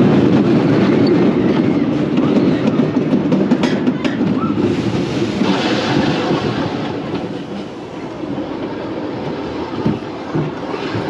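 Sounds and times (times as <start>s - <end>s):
roller coaster wheels on rail: 0.0s - 11.0s.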